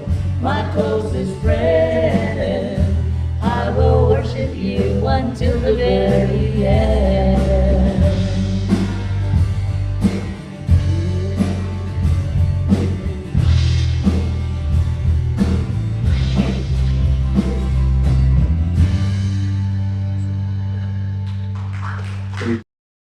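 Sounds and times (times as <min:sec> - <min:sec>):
drum hits: 0:00.0 - 0:19.4
rock band playing: 0:00.0 - 0:22.4
bass guitar notes: 0:00.0 - 0:22.6.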